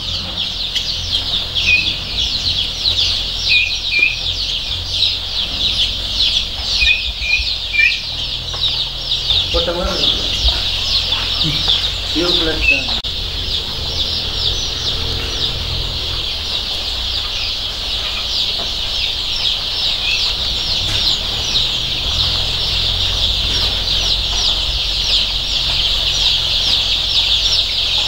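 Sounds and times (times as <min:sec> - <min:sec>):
chicks peeping: 0:00.0 - 0:28.0
low rumble: 0:00.0 - 0:28.0.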